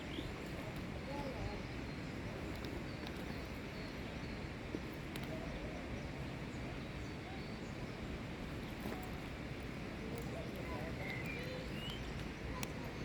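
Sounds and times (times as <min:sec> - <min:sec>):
outdoor background rush: 0:00.0 - 0:13.0.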